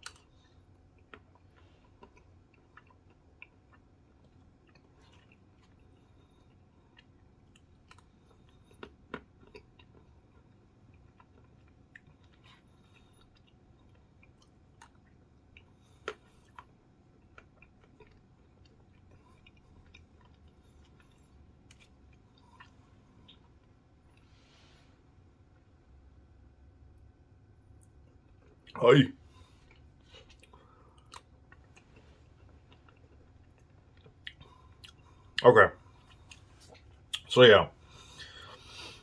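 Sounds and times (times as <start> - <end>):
person chewing ice cream: 0.0 - 39.0.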